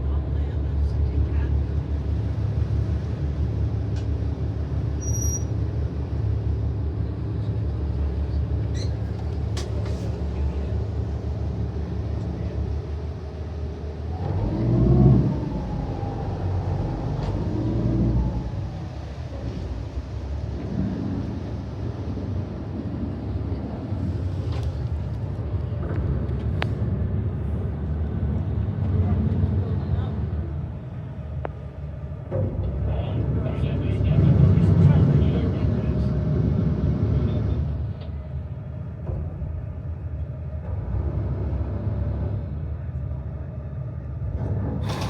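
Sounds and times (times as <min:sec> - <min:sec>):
ferry engine rumbling: 0:00.0 - 0:45.0.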